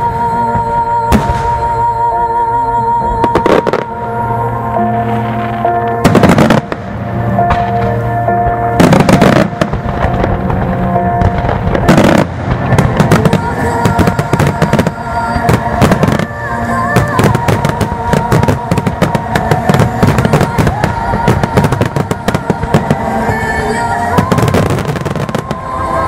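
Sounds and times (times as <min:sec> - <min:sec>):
fireworks bursting: 0:03.2 - 0:04.0, 0:04.8 - 0:26.0.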